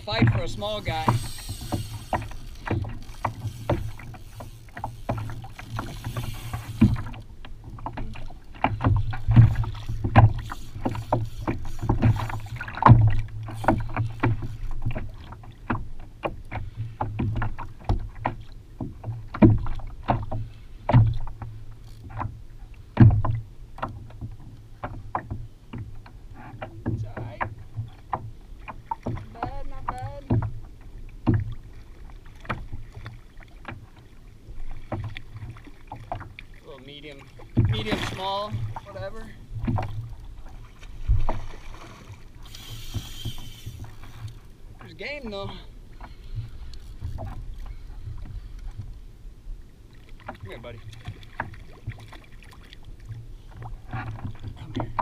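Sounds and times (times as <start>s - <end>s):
water slapping against hull: 0.0s - 55.0s.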